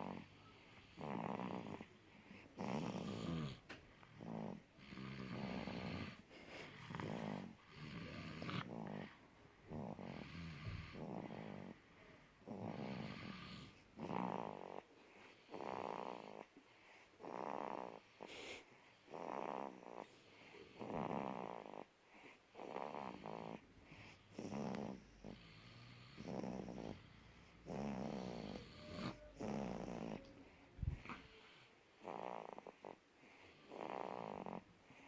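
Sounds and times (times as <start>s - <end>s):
people snoring: 0.0s - 11.8s, 12.4s - 14.8s, 15.4s - 16.5s, 17.2s - 21.9s, 22.6s - 31.2s, 32.0s - 34.7s.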